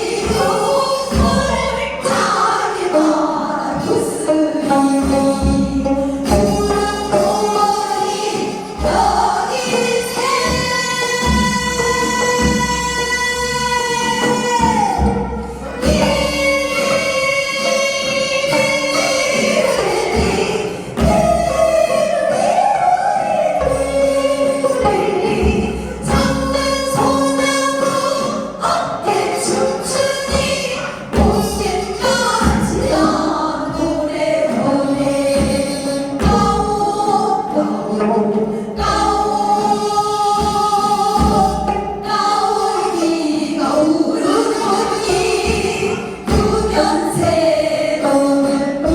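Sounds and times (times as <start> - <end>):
low drum beats: 0.0 - 43.1, 43.8 - 48.9
voices singing folk song: 0.0 - 48.9.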